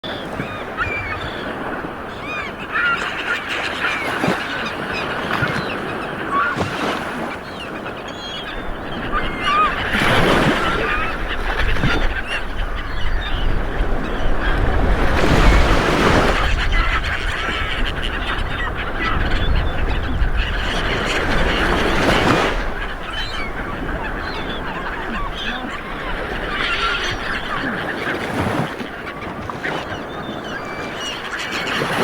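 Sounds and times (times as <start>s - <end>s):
birds calling: 0.0s - 32.0s
sea waves washing onto shore: 0.0s - 32.0s.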